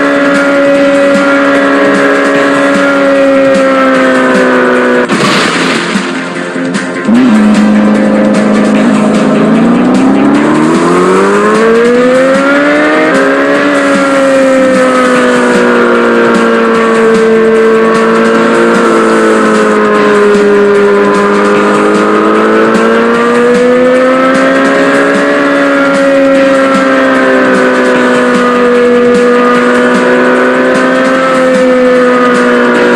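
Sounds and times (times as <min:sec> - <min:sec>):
small motorbike engine revving: 0:00.0 - 0:05.1, 0:07.0 - 0:32.9.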